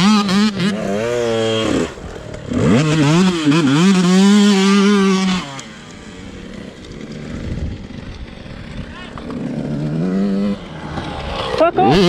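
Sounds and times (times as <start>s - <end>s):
two-stroke dirt bike engine: 0.0s - 12.0s.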